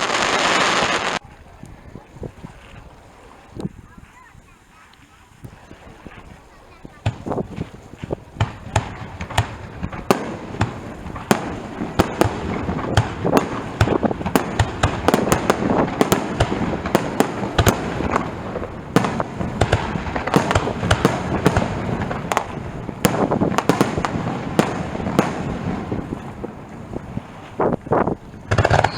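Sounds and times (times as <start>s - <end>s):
fireworks bursting: 0.0s - 28.9s
fireworks crackling: 0.0s - 28.9s.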